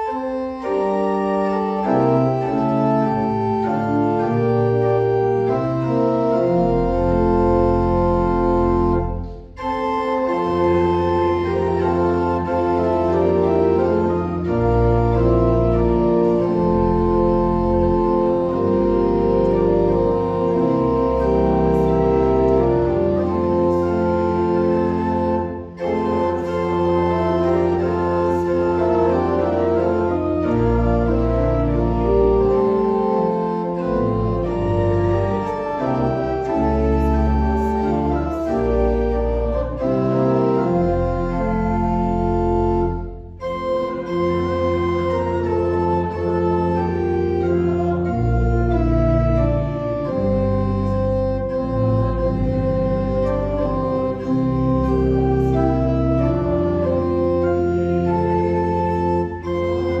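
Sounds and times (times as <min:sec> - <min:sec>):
church organ playing a carol: 0:00.0 - 1:00.0.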